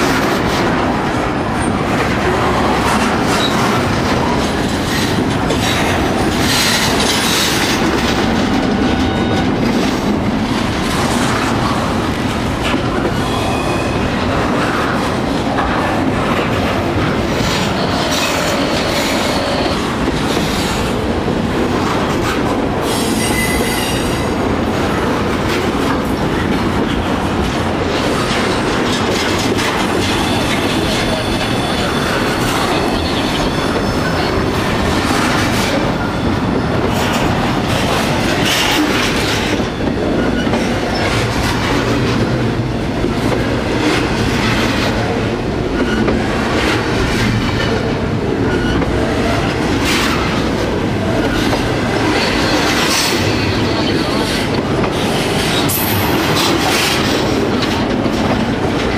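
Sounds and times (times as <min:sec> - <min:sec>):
freight train wheels on rails: 0:00.0 - 0:58.9.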